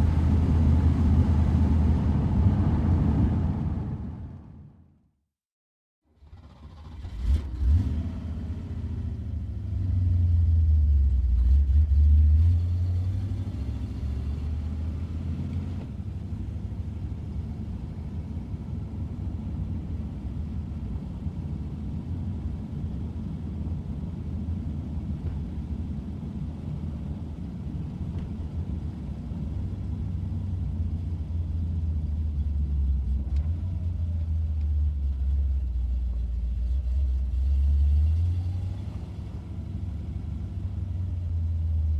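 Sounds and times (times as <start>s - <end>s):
car engine rumbling: 0.0s - 4.9s, 6.1s - 41.9s.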